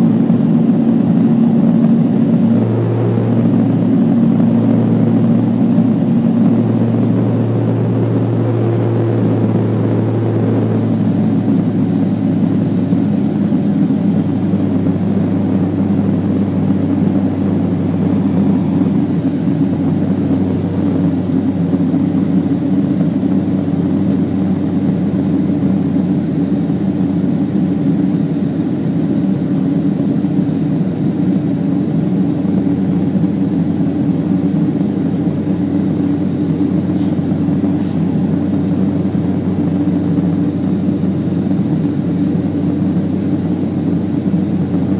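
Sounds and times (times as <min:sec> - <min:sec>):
turboprop engines droning: 0:00.0 - 0:44.9.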